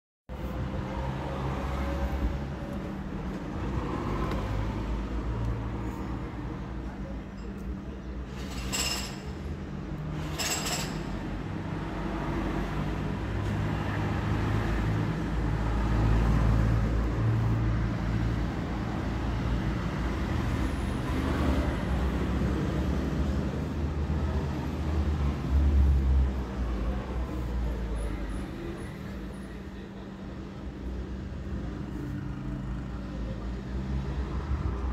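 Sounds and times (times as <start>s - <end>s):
motor vehicle rumbling: 0.3s - 34.9s.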